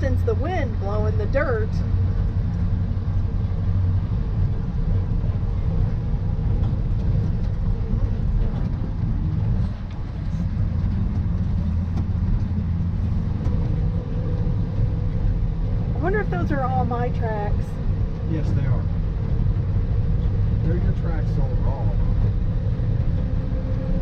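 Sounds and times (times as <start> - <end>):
dump truck engine rumbling: 0.0 - 24.0.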